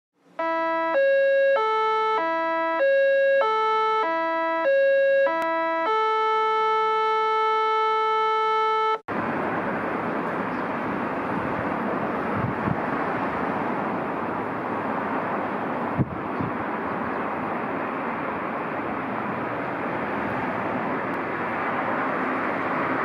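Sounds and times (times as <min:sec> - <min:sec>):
outdoor wind noise: 0:00.2 - 0:23.0.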